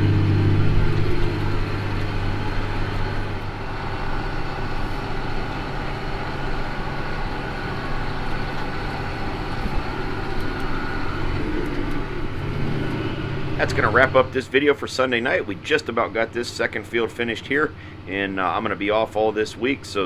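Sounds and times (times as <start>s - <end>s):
steady whine: 0.0s - 20.0s
tractor diesel engine running: 0.0s - 20.0s.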